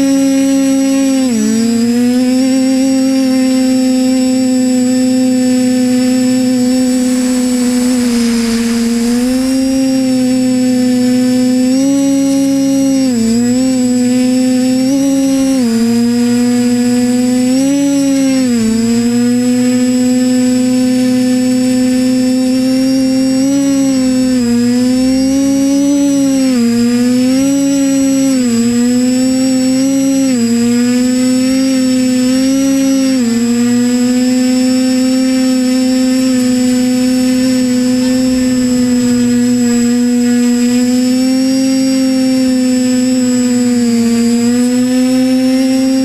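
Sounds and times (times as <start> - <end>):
drone propellers buzzing: 0.0 - 46.0
thin high whine: 0.0 - 46.0.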